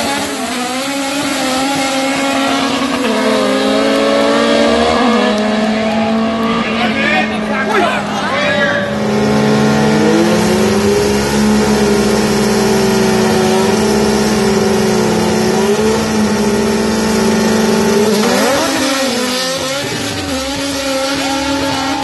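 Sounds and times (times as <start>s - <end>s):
racing car engine at high revs: 0.0s - 22.0s.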